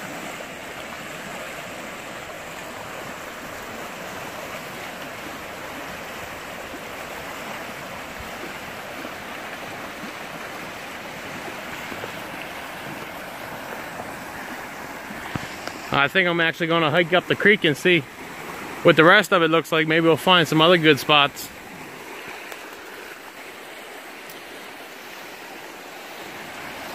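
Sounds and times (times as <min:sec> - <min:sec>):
creek current rushing: 0:00.0 - 0:26.9.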